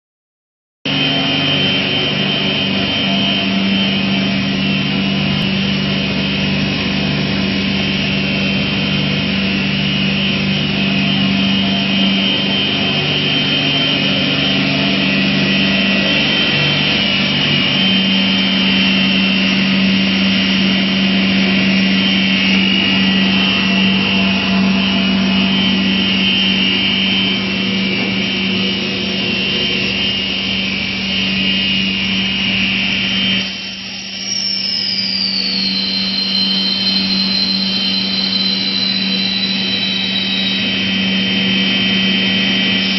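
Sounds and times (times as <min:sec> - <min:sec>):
high even whine: 0:00.9 - 0:42.9
low hum: 0:00.9 - 0:42.9
machinery drone: 0:00.9 - 0:42.9.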